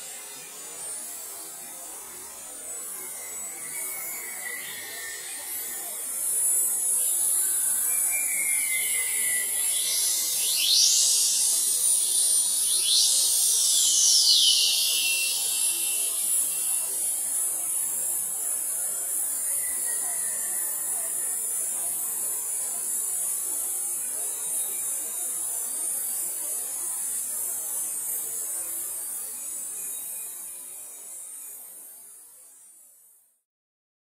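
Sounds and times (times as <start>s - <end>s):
high-pitched buzzing hiss: 0.0s - 33.0s.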